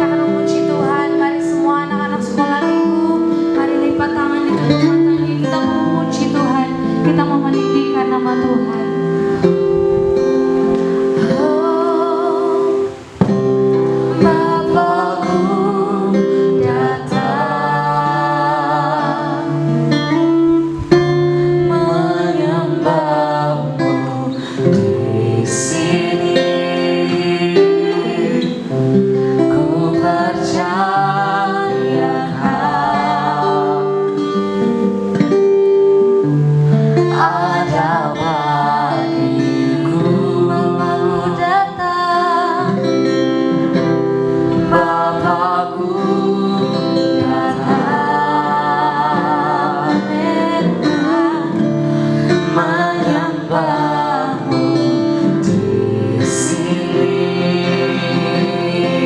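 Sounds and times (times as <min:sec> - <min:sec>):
person singing: 0:00.0 - 0:09.9, 0:10.8 - 0:35.2, 0:37.0 - 0:43.7, 0:44.3 - 0:59.0
instrumental chords: 0:00.0 - 0:59.0.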